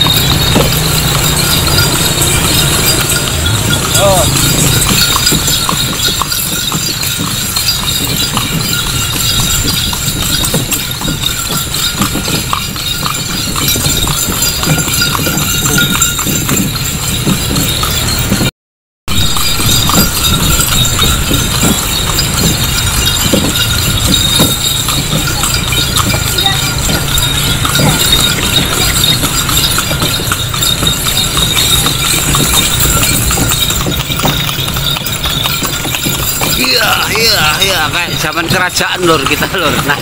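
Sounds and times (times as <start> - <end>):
horse hooves clip-clopping on pavement: 0.0 - 18.5, 19.1 - 40.0.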